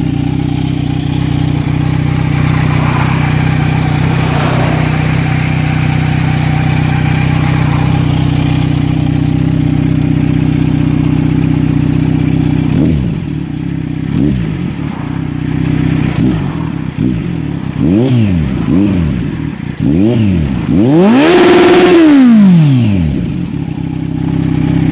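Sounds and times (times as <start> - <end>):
motorcycle engine idling: 0.0 - 21.4, 22.8 - 24.9
motorcycle throttle blips: 0.0 - 24.9.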